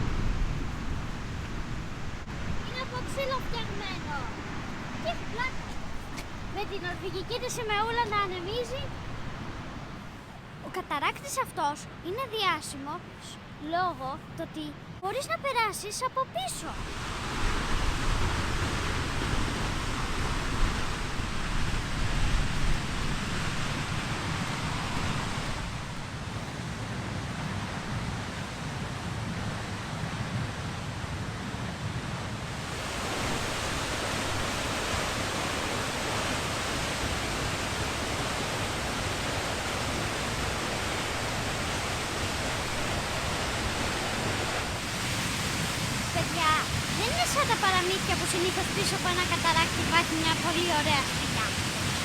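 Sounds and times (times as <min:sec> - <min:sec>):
waterfall rushing: 0:00.0 - 0:11.4, 0:15.1 - 0:31.0, 0:32.4 - 0:52.0.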